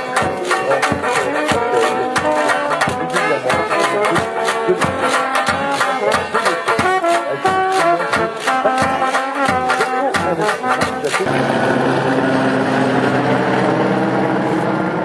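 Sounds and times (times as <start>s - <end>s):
banjo: 0.0s - 13.4s
trombone and brass playing: 0.0s - 14.7s.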